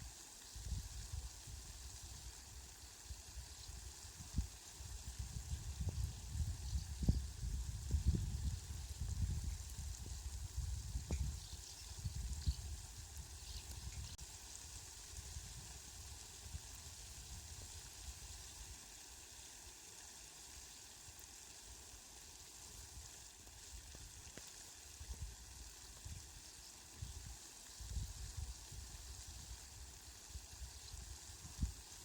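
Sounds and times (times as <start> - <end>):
faint rain hiss: 0.0 - 32.0.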